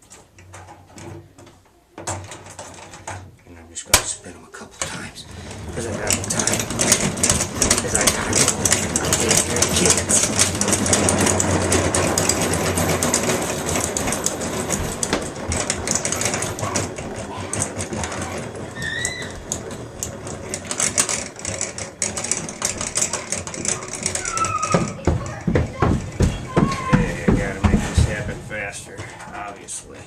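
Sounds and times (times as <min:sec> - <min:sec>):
honey extractor rattling and whirring: 0:04.9 - 0:30.0.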